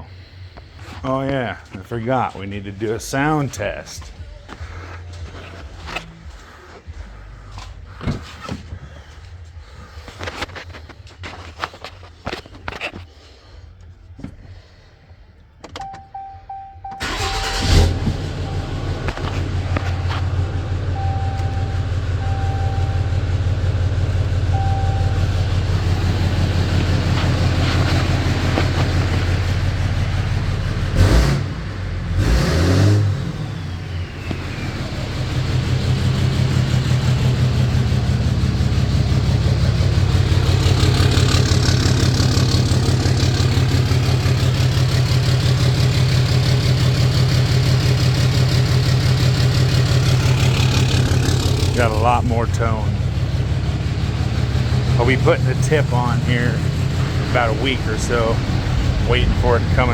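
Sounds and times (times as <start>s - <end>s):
diesel engine idling and revving: 0.0s - 59.9s.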